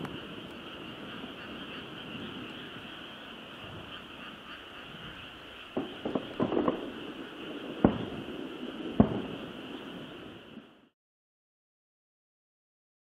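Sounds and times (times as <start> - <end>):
distant fireworks bursting: 0.0 - 10.9
frogs croaking: 0.0 - 10.9.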